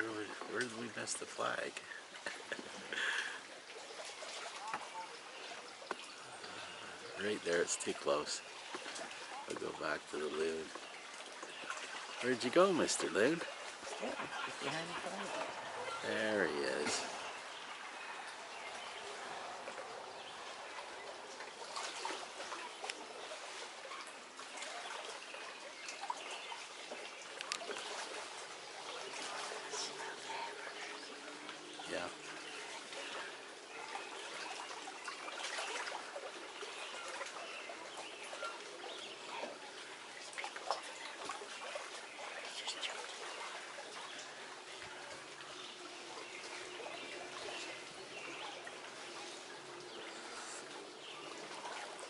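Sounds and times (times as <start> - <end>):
small water splashes: 0.0 - 52.0
small waves lapping at shore: 0.0 - 52.0.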